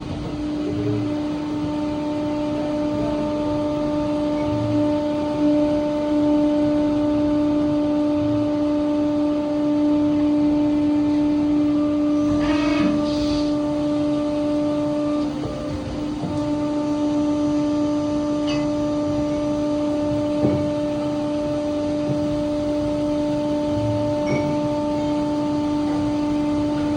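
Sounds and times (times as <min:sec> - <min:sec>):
machine droning hum: 0:00.0 - 0:26.9.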